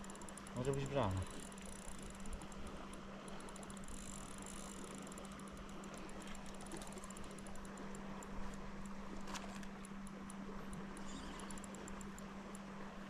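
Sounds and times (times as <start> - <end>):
faint ticking: 0.0 - 9.0, 9.7 - 12.7
low hum: 0.0 - 13.0.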